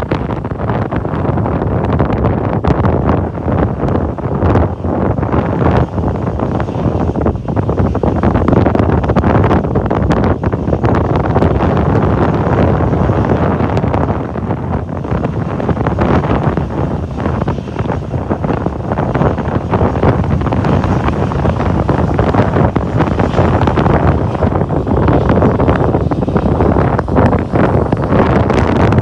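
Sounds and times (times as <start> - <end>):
gusty wind buffeting microphone: 0.0 - 29.0.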